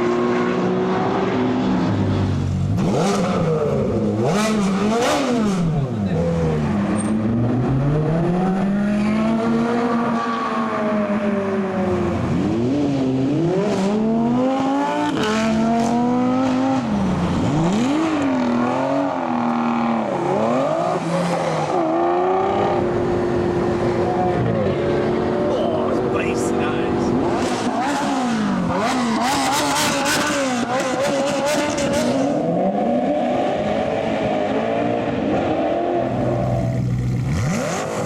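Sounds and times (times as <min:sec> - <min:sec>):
supercar engine revving: 0:00.0 - 0:38.0.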